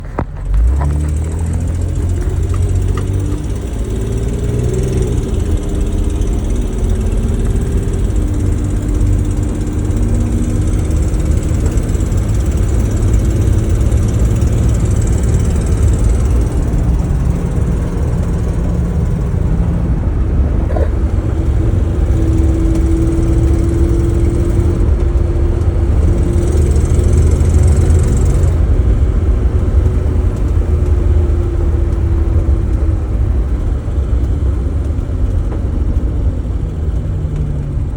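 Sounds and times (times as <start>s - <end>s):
car engine idling: 0.0s - 37.9s
engine ticking: 0.0s - 37.9s.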